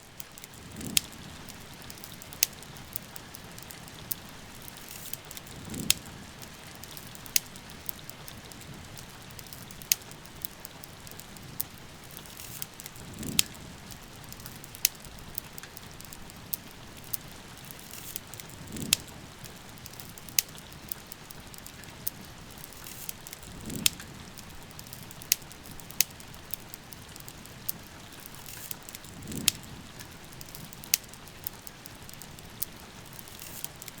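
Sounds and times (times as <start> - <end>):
rain hiss: 0.0 - 34.0
wood fire crackling: 0.0 - 34.0.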